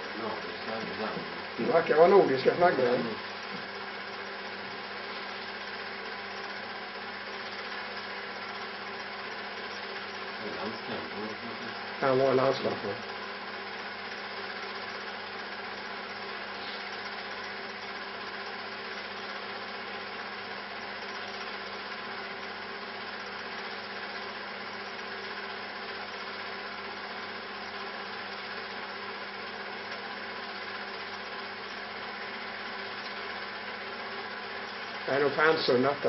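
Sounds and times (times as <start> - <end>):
film projector whirring: 0.0 - 36.0.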